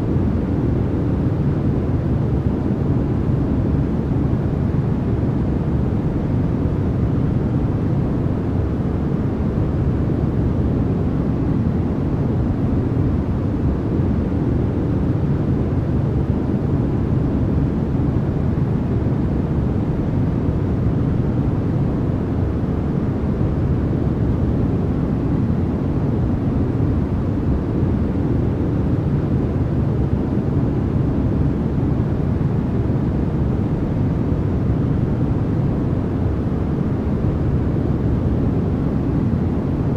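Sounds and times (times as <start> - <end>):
deep white noise rush: 0.0 - 39.9.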